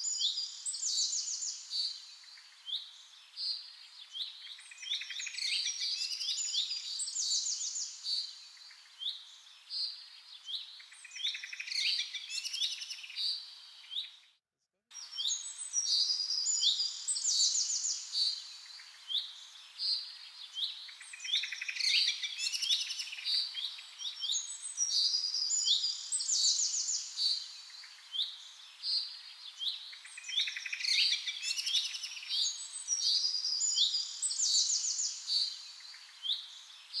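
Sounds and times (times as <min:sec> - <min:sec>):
songbird singing: 0:00.0 - 0:14.4, 0:15.0 - 0:37.0.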